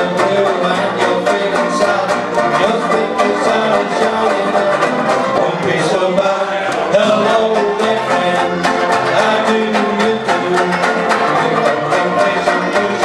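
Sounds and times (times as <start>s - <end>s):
men singing together: 0.0s - 13.0s
strummed banjo-ukuleles and banjo: 0.0s - 13.0s.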